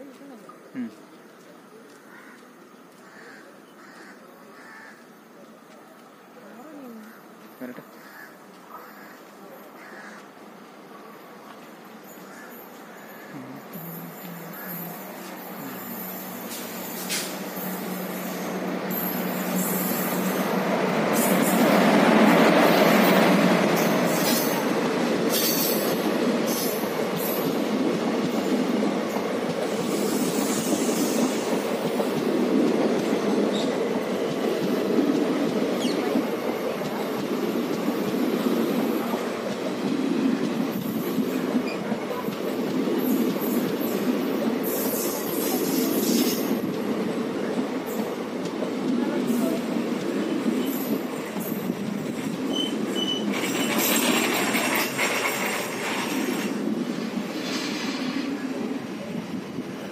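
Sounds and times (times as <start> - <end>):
train wheels rumbling on rails: 4.4 - 59.9.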